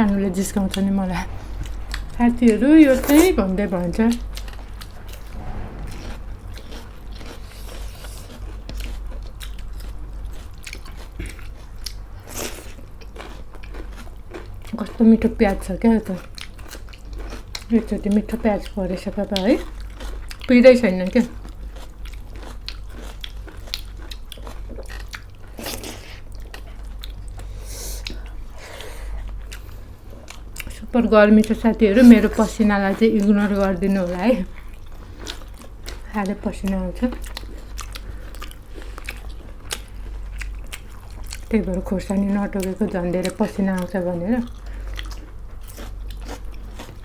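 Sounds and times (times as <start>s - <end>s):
close chewing with crunches: 6.6s - 47.0s.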